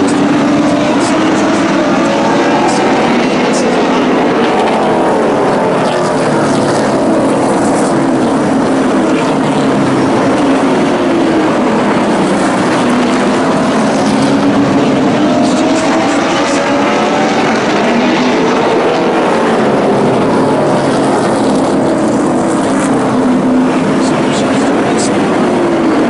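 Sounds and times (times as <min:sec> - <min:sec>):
race truck engines: 0:00.0 - 0:26.0.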